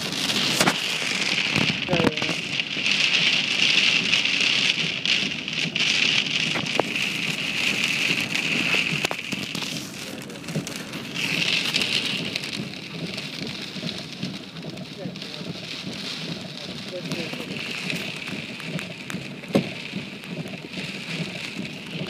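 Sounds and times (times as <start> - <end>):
heavy rain on car windshield: 0.0 - 22.0.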